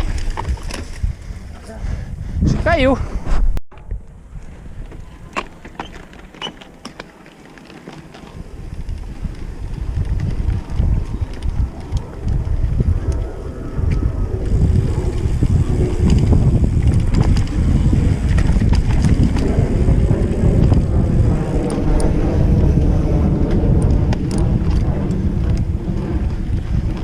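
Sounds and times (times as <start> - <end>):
bike clicks and rattles: 0.0 - 1.8, 3.8 - 27.0
wind on microphone: 0.0 - 6.0, 8.3 - 27.0
bike tyre rumble: 0.0 - 27.0.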